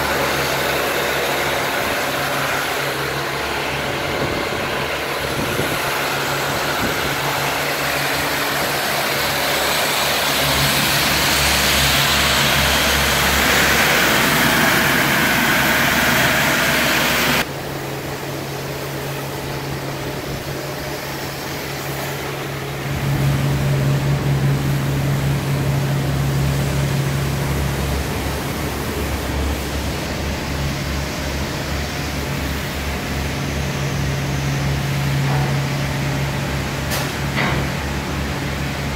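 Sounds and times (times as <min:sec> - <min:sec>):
ship machinery drone: 0:00.0 - 0:38.9
ventilation fans humming: 0:00.0 - 0:38.9.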